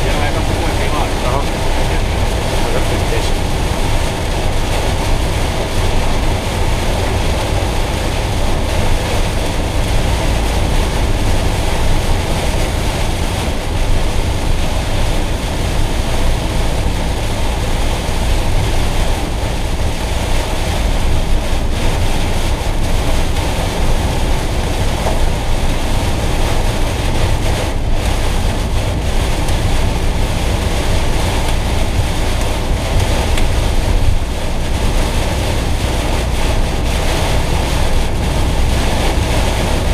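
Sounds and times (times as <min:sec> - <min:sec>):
deep rumble: 0:00.0 - 0:39.9
rain on vehicle body: 0:00.0 - 0:39.9
tyres running through water: 0:00.0 - 0:39.9.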